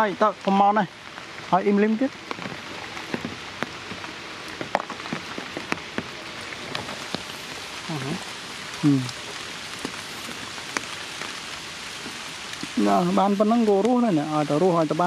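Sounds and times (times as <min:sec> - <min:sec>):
raindrop ticks: 0:00.0 - 0:15.0
steady rain: 0:00.0 - 0:15.0.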